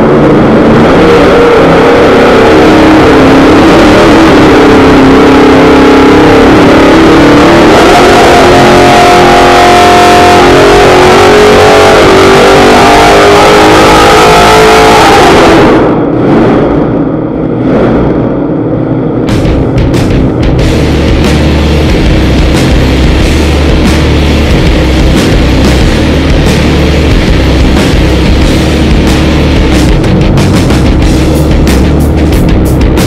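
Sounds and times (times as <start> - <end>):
loud engine at high revs: 0.0 - 19.6, 20.5 - 33.0.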